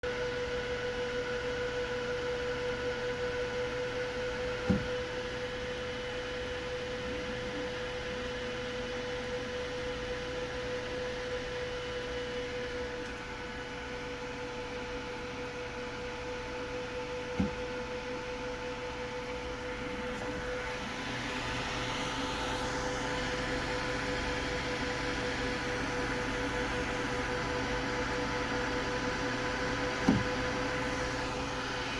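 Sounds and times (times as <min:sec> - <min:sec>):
fan hum: 0:00.2 - 0:31.9.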